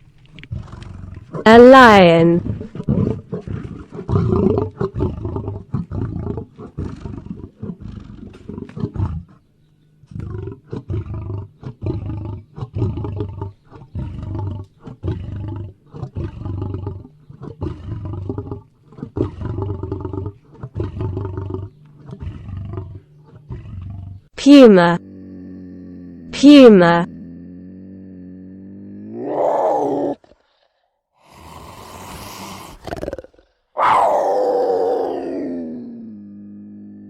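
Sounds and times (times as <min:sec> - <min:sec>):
lion roaring: 0:00.2 - 0:37.0.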